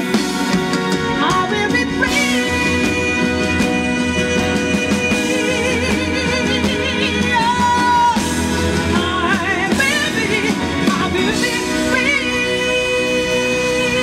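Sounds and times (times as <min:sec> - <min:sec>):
live band with drums and guitar: 0:00.0 - 0:14.0
woman singing with vibrato: 0:00.0 - 0:14.0.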